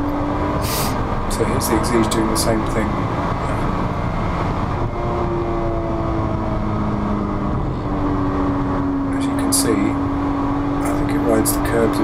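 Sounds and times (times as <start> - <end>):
car engine under full throttle: 0.0 - 12.0
road and wind noise: 0.0 - 12.0.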